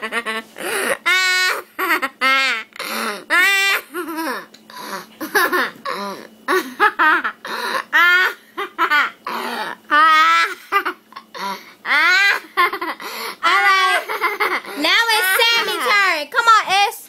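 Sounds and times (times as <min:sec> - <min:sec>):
child laughing loudly: 0:00.0 - 0:04.4, 0:06.5 - 0:16.0.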